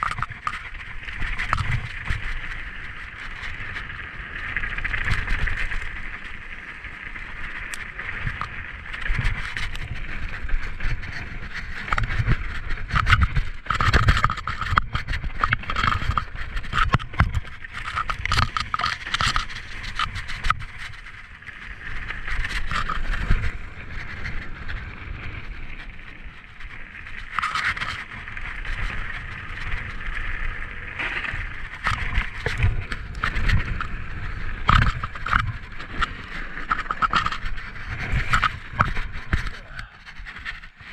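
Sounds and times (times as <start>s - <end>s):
bike knocking and rattling: 0.0s - 40.9s
bike tyres rolling on dirt: 0.0s - 40.9s
wind rumble on microphone: 0.0s - 40.9s.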